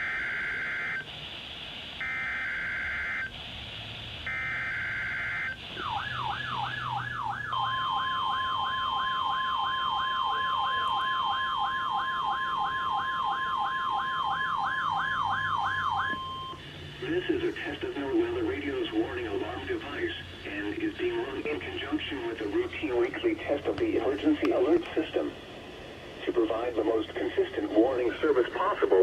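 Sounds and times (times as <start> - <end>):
warbling alarm: 0.0 - 23.2
steady alarm tone: 0.0 - 23.6
radio hiss: 0.0 - 29.0.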